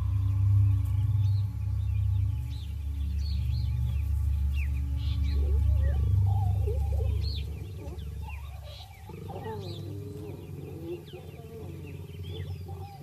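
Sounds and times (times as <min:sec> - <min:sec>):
birds chirping: 0:00.0 - 0:13.0
leopards growling: 0:00.0 - 0:13.0
loud low drone: 0:00.0 - 0:13.0.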